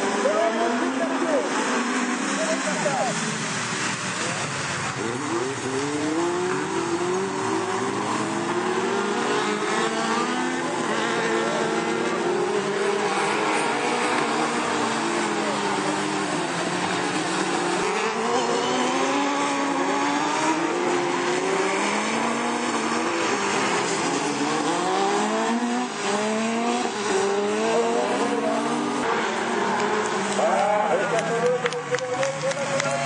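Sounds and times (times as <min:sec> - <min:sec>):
buggy engines at full throttle: 0:00.0 - 0:33.0.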